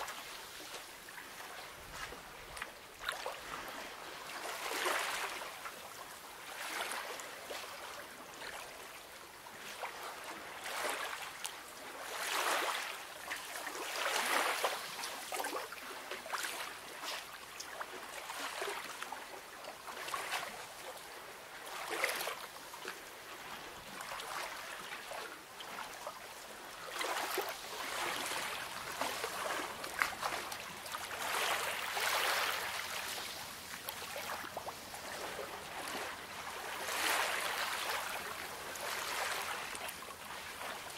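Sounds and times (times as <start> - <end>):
small waves lapping and splashing: 0.0 - 40.9.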